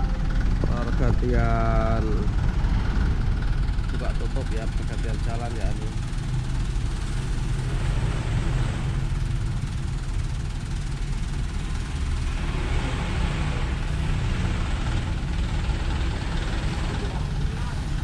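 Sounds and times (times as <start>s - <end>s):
diesel truck engines rumbling: 0.0s - 18.0s
truck rolling past: 0.0s - 18.0s.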